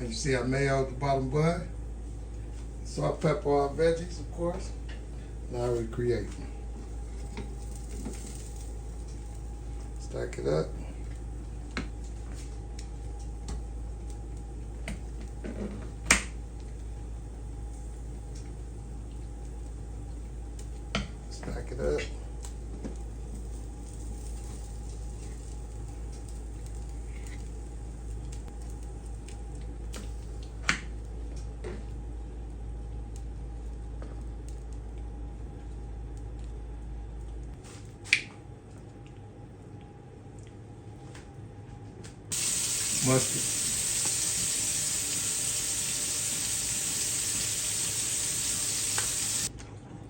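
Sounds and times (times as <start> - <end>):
steady low hum: 0.0 - 49.6.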